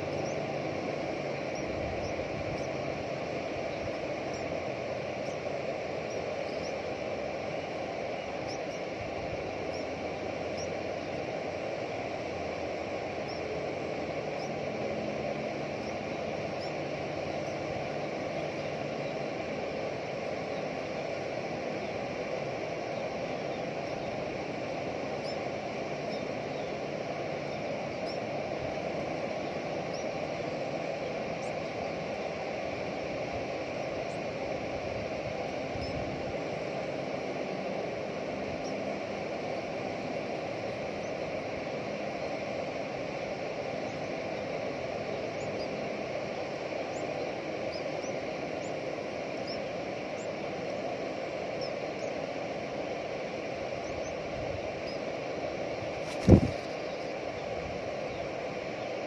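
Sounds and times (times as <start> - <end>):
outdoor background noise: 0.0 - 59.0.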